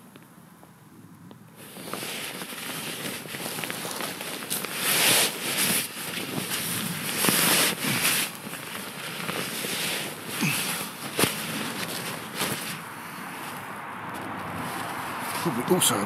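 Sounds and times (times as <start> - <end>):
sleeping bag rustling and crinkling: 1.5 - 16.0.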